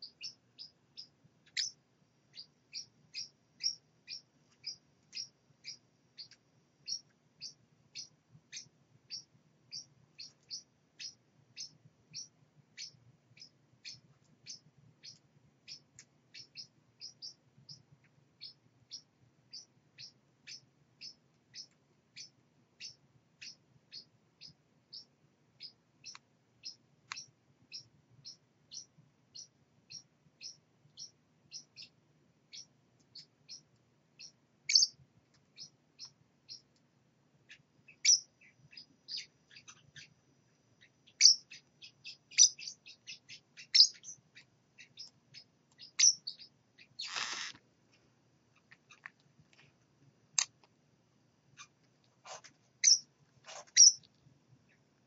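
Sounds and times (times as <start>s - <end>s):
parrot chick peeping: 0.0s - 36.8s, 37.4s - 47.6s, 48.4s - 49.7s, 50.3s - 50.7s, 51.5s - 54.9s.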